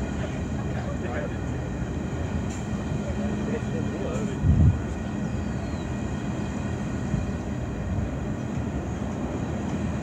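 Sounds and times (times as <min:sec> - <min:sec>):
freight train wheels on track: 0:00.0 - 0:10.0.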